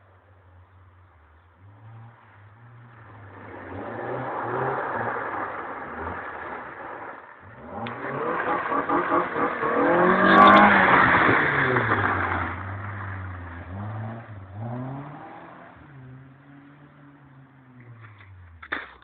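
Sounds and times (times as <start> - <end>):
car engine revving: 0.6 - 18.7.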